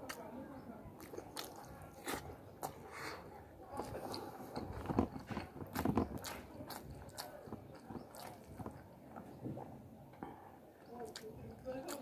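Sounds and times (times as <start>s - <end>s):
person chewing food: 1.0s - 9.8s, 11.0s - 12.0s.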